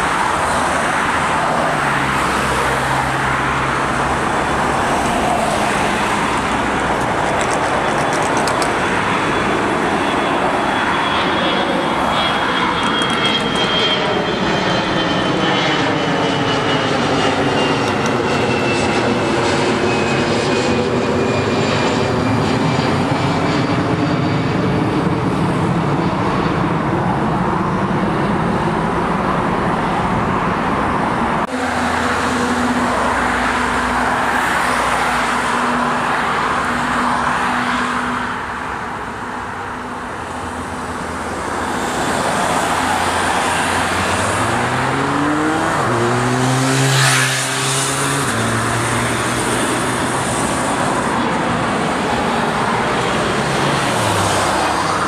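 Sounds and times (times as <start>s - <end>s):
jet airliner engines climbing: 0.0s - 55.0s.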